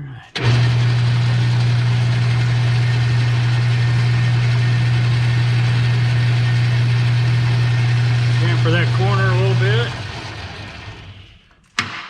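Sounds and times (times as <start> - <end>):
metal lathe running: 0.4 - 11.4.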